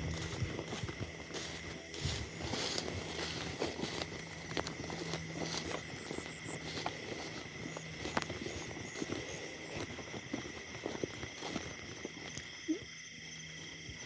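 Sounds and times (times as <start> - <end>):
faint steady hum: 0.0 - 14.0
footsteps in dry vegetation: 0.0 - 14.0
insect chirps: 0.0 - 14.0.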